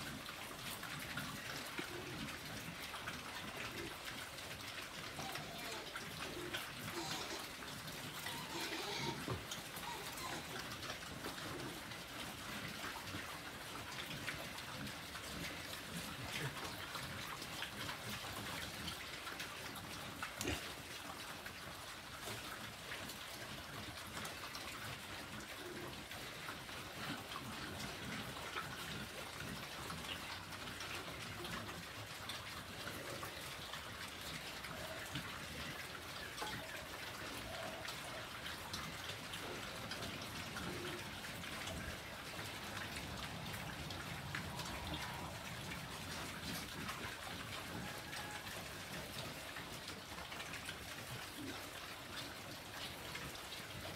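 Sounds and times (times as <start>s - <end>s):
pigs chewing and smacking: 0.0s - 53.9s.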